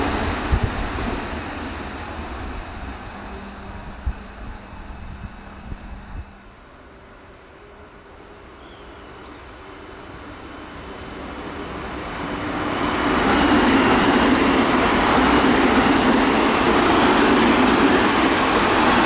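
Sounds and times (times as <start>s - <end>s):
electric train wheels on rails: 0.0s - 19.0s.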